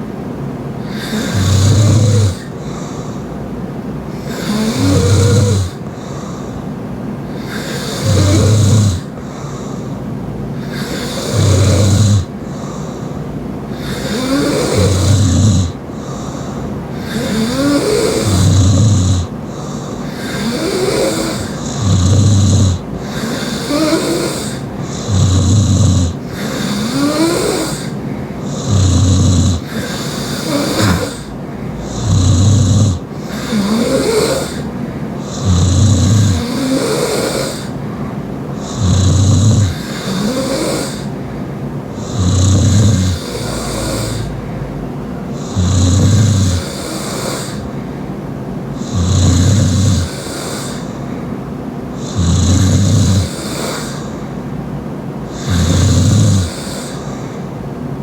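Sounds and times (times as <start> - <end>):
loud open-mouth snoring: 0.0 - 58.0.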